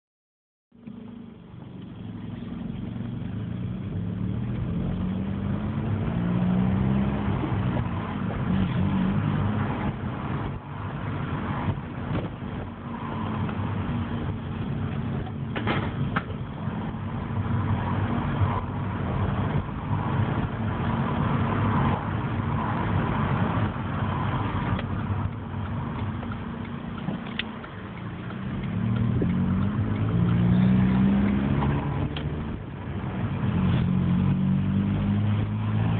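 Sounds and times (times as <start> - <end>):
car engine accelerating: 0.8 - 35.9.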